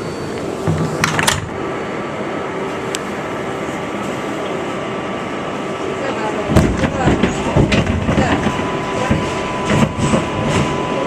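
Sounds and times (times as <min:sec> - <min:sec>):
subway car doors closing: 0:00.0 - 0:11.0
train interior rumble and hum: 0:00.0 - 0:11.0.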